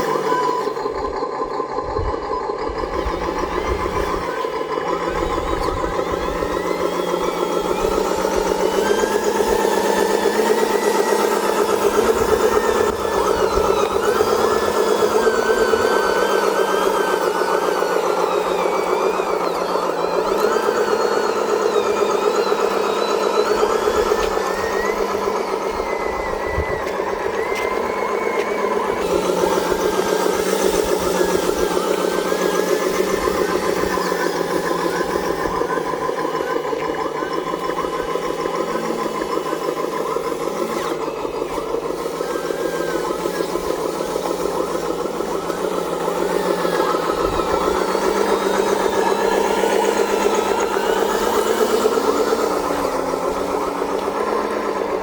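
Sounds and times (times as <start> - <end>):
simulated diesel truck engine: 0.0 - 55.0
thin wavering whine: 0.0 - 55.0.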